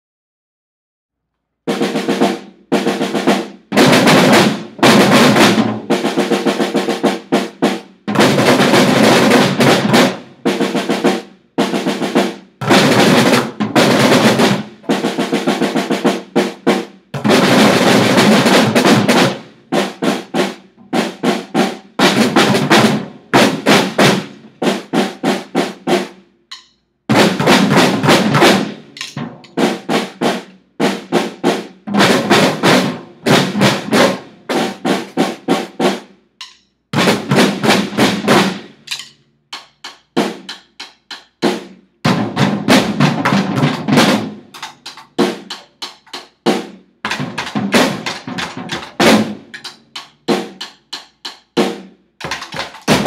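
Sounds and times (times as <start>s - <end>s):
children drumming: 1.7s - 53.0s.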